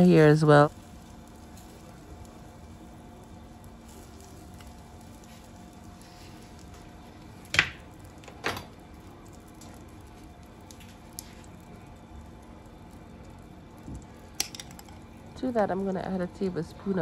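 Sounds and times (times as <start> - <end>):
faint kitchen hum: 0.0 - 17.0.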